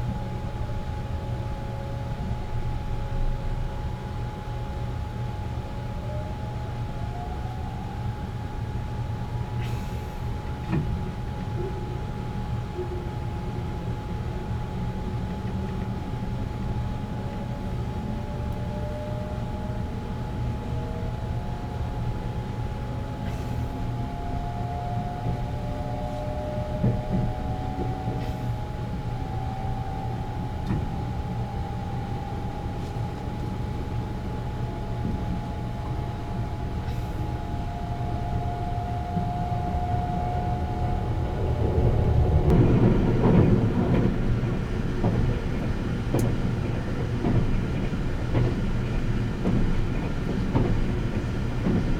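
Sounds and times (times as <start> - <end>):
train running rumble: 0.0 - 51.9
train motor whine: 5.8 - 51.9.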